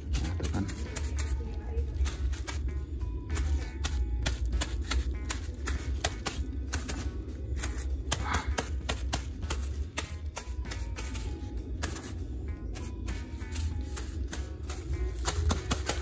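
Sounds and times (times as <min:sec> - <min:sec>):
crinkly plastic bag pats: 0:00.0 - 0:16.0
steady low hum: 0:00.0 - 0:16.0.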